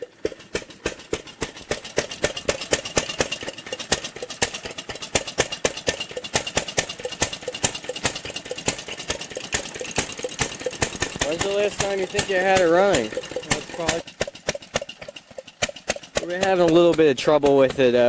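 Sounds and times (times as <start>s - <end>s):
lawn mower engine running unevenly: 0.0s - 18.0s.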